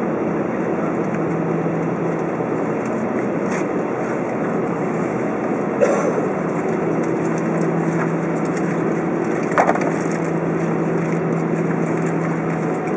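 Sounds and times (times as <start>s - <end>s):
airliner cabin hum: 0.0s - 12.9s.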